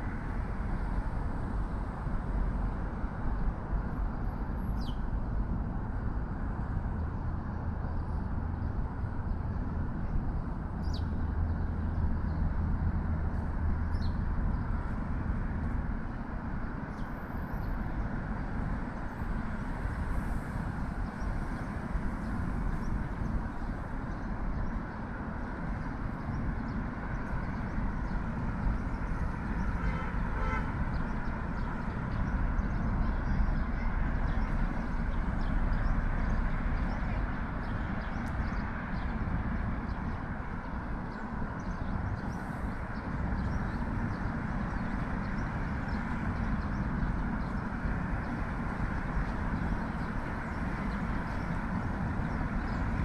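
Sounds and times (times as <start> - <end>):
city road traffic: 0.0 - 53.0
vehicle engine hum: 0.0 - 53.0.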